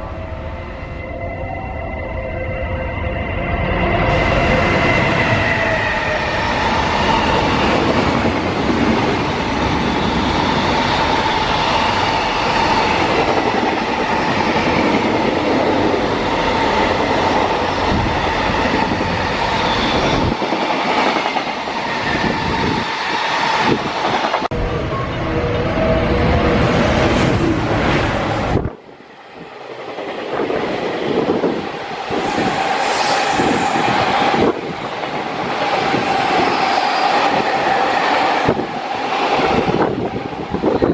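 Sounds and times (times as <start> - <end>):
freight train rumble and wheel clatter: 3.5 - 40.9.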